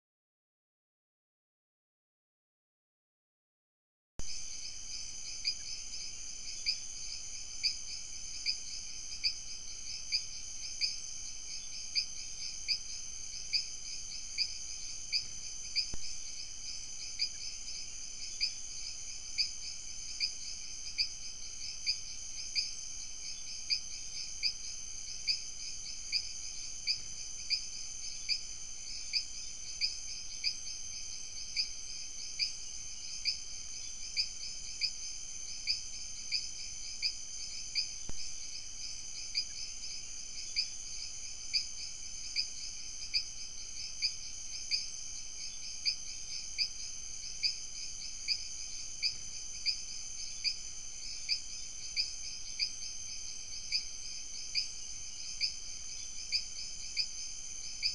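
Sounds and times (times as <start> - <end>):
loud high insect chirp: 4.2 - 57.9
night insect chorus: 4.2 - 57.9.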